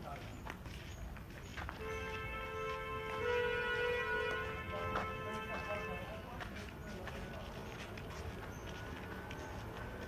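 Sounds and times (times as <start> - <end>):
footsteps on street: 0.0 - 10.0.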